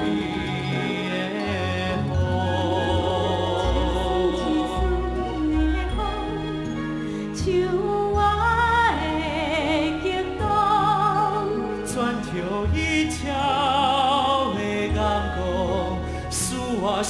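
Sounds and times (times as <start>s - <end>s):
orchestral accompaniment: 0.0s - 17.0s
person singing with vibrato: 0.0s - 17.0s.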